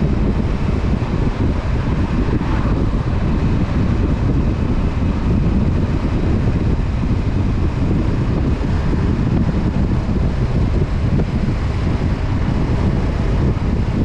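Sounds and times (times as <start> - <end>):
motorcycle engine running: 0.0 - 14.0
wind rushing over microphone: 0.0 - 14.0.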